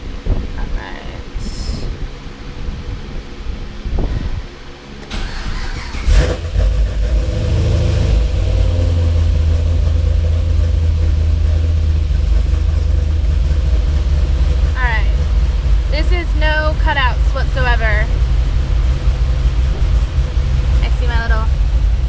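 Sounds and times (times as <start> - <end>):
car engine starting and idling: 1.8 - 22.0.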